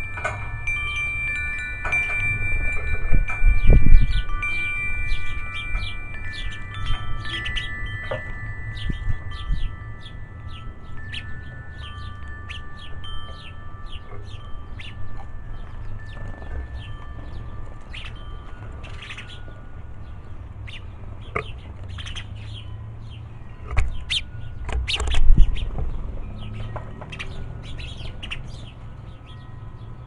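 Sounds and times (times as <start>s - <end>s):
metal wind chimes ringing: 0.0s - 30.0s
small birds chirping: 0.0s - 30.0s
wind rumble on microphone: 0.0s - 30.0s.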